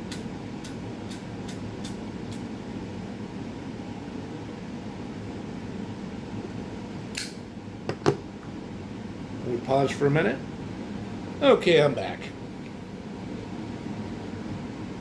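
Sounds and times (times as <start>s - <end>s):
room fan humming: 0.0s - 15.0s.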